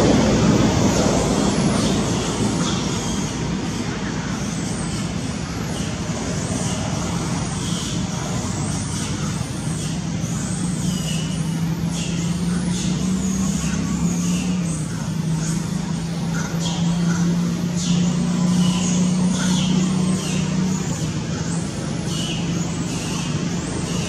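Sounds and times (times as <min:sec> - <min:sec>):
low motor hum: 0:00.0 - 0:24.0
outdoor noise: 0:00.0 - 0:24.0.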